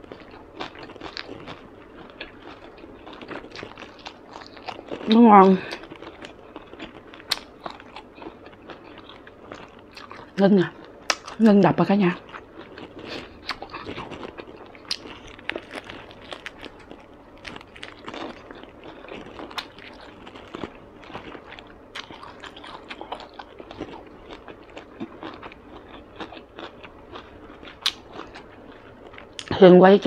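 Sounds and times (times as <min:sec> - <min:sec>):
wet mouth chewing: 0:00.0 - 0:11.4, 0:12.2 - 0:29.5.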